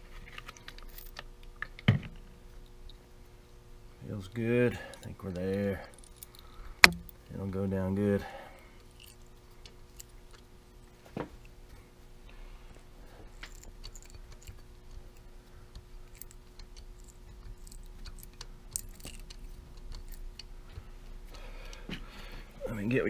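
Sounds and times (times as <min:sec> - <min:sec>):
steady hum: 0:00.0 - 0:23.0.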